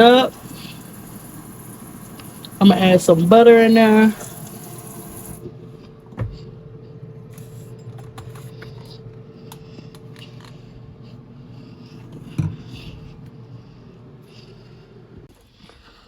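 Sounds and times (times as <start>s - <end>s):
appliance fan humming: 0.0s - 15.4s.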